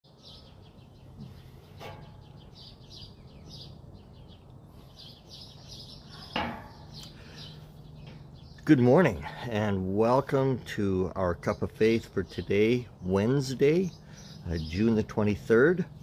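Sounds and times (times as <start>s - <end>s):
songbirds chirping and singing: 0.0s - 16.0s.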